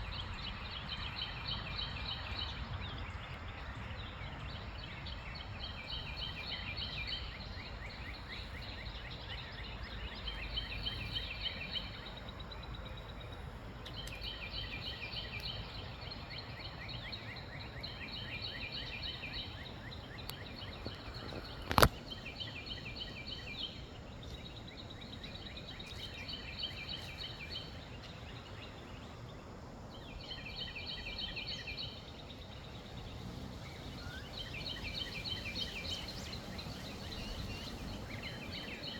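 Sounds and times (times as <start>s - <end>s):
wind rumble: 0.0s - 26.8s, 27.4s - 38.9s.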